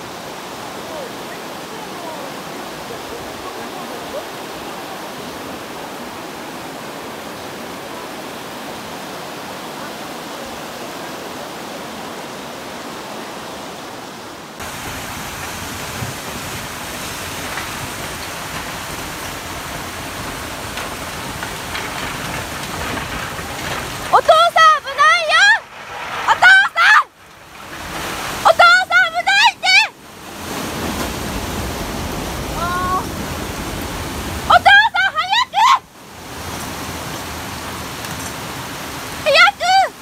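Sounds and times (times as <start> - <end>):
heavy rain: 0.0 - 40.0
river rushing: 0.0 - 40.0.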